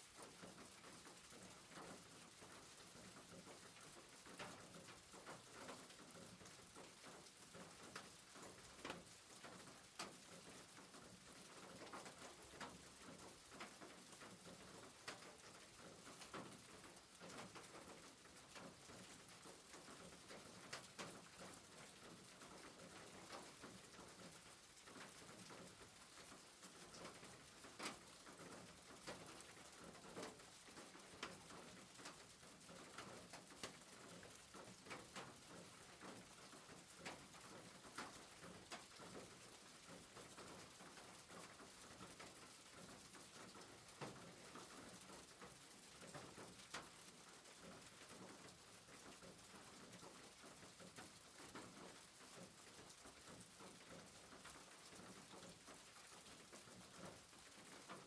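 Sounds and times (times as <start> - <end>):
raindrops tapping on roof: 0.0 - 58.0.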